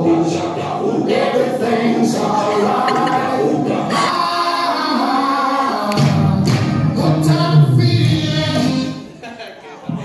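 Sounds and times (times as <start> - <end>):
choir-like singing voices: 0.0 - 9.1.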